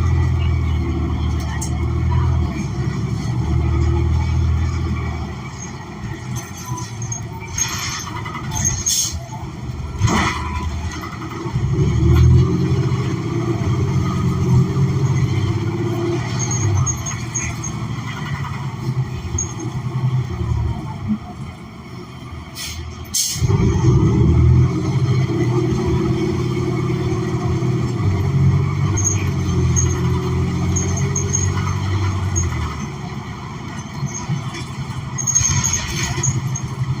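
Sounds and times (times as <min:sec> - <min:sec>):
bus engine running: 0:00.0 - 0:37.0.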